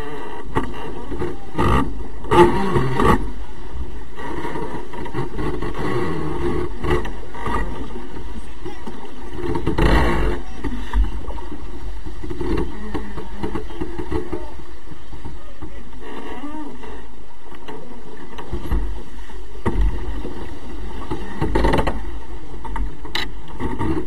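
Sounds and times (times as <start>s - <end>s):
waves rushing along hull: 0.0s - 24.0s.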